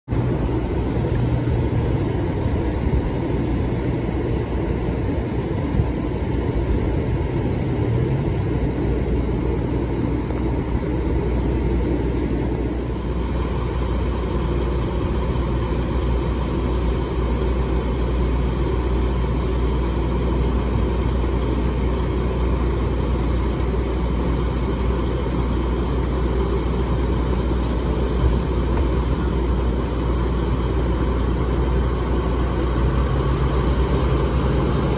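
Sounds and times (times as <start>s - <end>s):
diesel truck engines idling: 0.1s - 34.9s.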